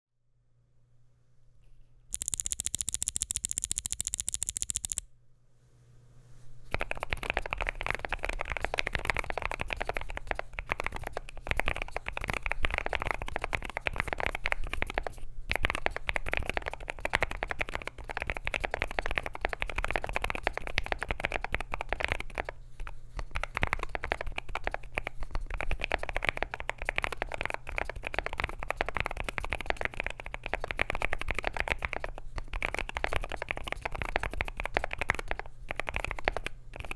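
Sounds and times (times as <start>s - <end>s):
typing on mechanical keyboard: 2.1s - 5.0s, 6.7s - 22.6s, 23.3s - 36.9s.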